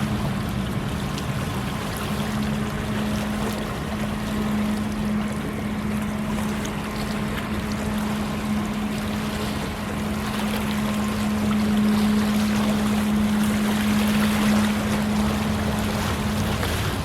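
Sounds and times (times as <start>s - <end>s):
ship engine droning: 0.0s - 17.0s.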